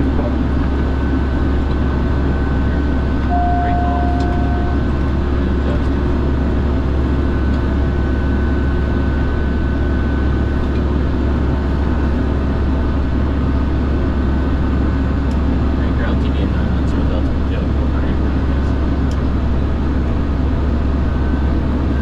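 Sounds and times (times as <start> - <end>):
turboprop engine drone: 0.0 - 22.0.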